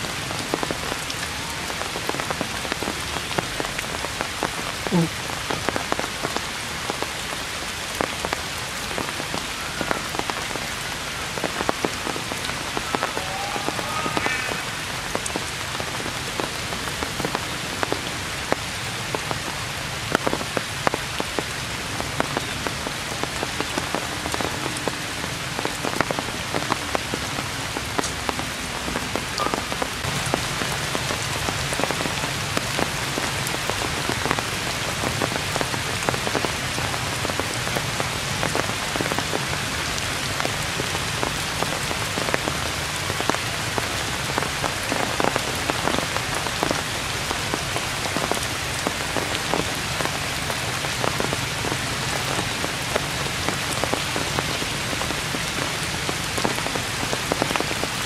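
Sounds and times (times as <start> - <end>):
heavy rain on foliage: 0.0 - 58.0
raindrops tapping nearby: 0.0 - 58.0.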